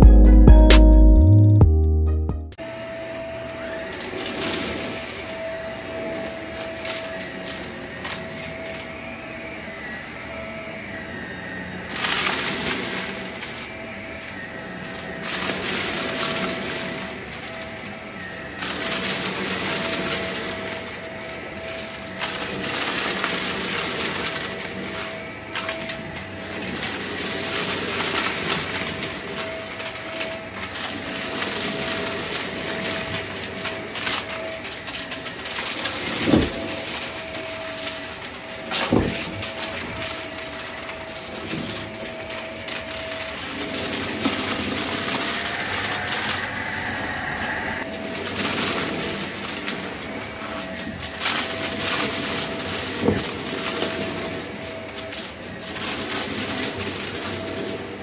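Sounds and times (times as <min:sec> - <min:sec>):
stick vacuum running over carpet: 0:02.6 - 0:58.0
debris rattling through vacuum: 0:03.9 - 0:08.9, 0:11.9 - 0:58.0.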